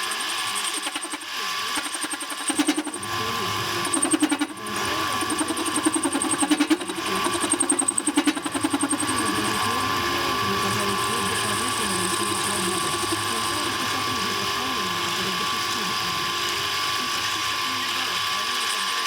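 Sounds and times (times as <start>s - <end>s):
small power tool pulsing: 0.0s - 19.0s.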